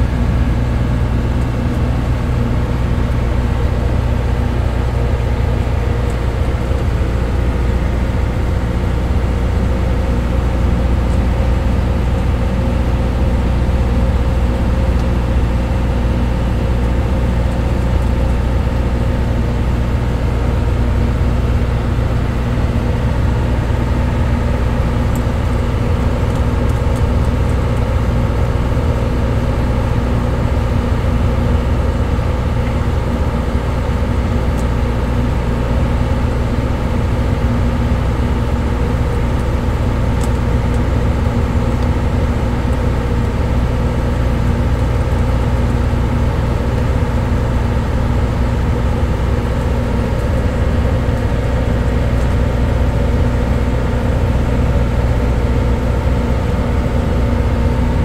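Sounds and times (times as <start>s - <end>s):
ship engine drone: 0.0s - 58.0s.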